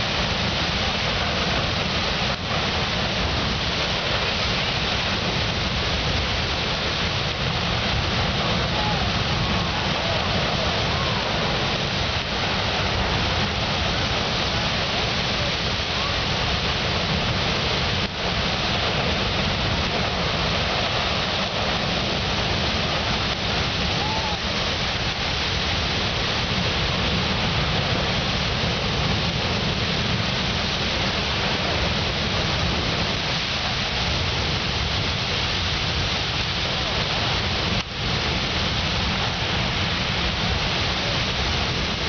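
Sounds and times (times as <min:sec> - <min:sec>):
geyser water and steam rushing: 0:00.0 - 0:42.0.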